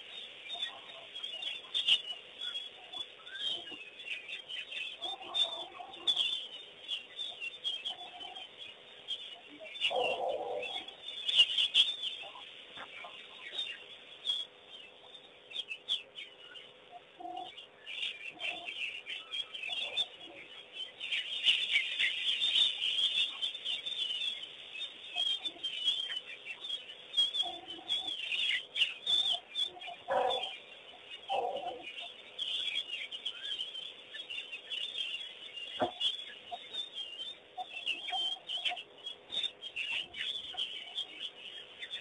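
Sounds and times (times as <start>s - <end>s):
birds chirping and twittering: 0.0s - 42.0s
lower bird calls: 0.0s - 42.0s.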